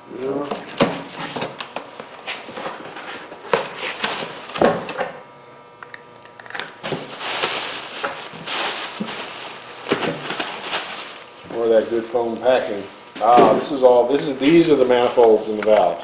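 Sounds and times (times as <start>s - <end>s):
plastic wrapping rustling: 0.7s - 5.0s, 6.4s - 16.0s.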